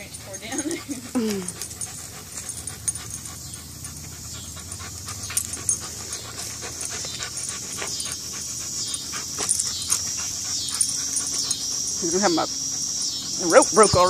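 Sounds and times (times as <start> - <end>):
dog panting hard: 0.0 - 14.0.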